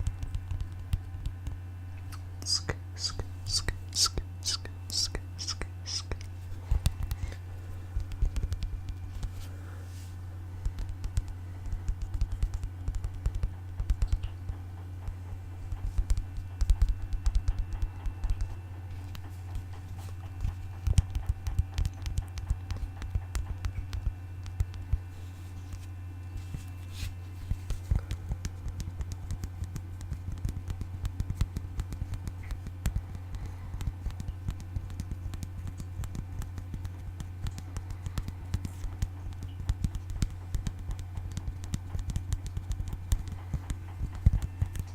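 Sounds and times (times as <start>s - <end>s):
fingers tapping and scratching: 0.0s - 9.4s, 10.6s - 26.7s, 27.4s - 44.9s
steady low hum: 0.0s - 44.9s.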